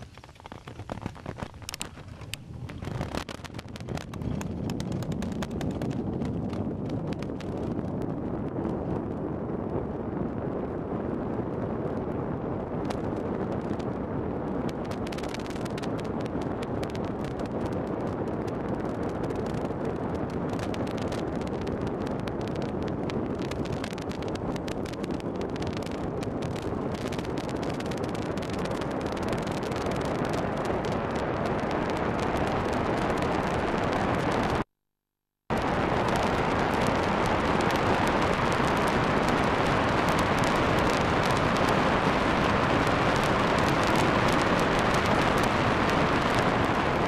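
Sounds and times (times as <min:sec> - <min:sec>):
crackles and pops: 0:00.0 - 0:34.7, 0:35.5 - 0:47.0
wind rushing over microphone: 0:00.0 - 0:34.7, 0:35.5 - 0:47.0.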